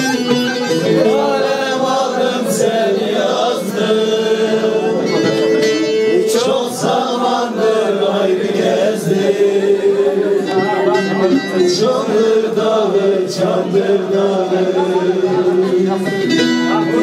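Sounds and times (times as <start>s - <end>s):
men singing folk song: 0.0s - 17.0s
strummed lute: 0.0s - 17.0s.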